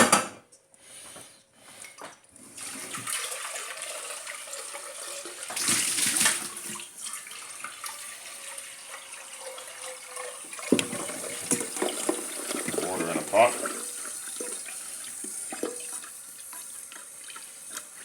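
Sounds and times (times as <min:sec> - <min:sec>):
tap water filling pot: 0:01.7 - 0:18.0.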